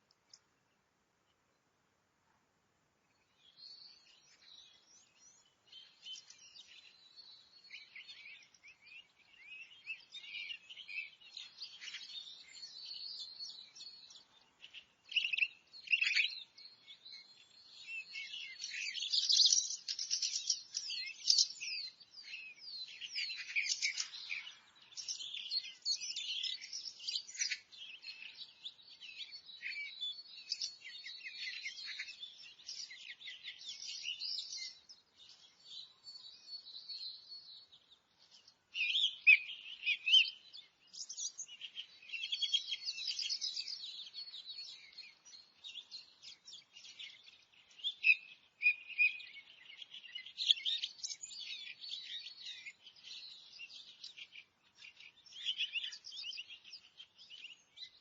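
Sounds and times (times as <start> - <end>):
birds singing and chirping: 3.1 - 58.0.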